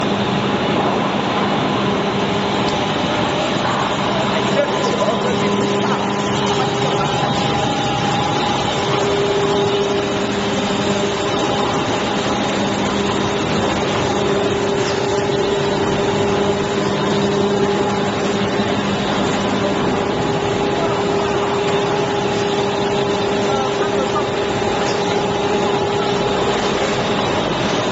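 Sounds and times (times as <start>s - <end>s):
extrusion machine running: 0.0s - 27.9s.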